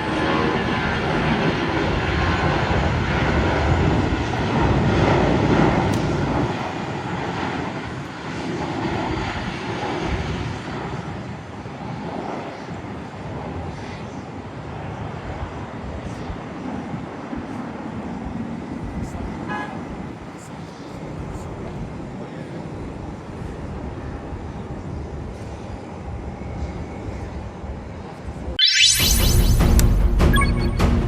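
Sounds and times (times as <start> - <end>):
airliner engines passing: 0.0 - 29.0.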